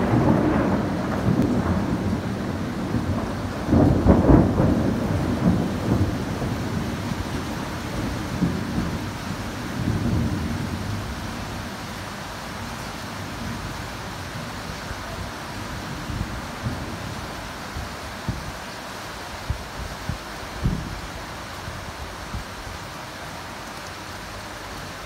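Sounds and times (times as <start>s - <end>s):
thunder rumbling: 0.0s - 18.6s, 19.4s - 21.1s
heavy rain hiss: 0.0s - 25.0s.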